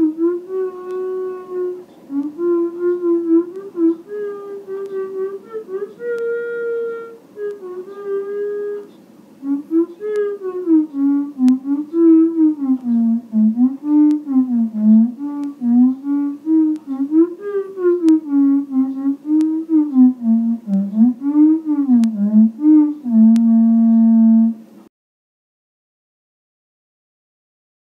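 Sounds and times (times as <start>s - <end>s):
theremin playing low melody: 0.0s - 24.7s.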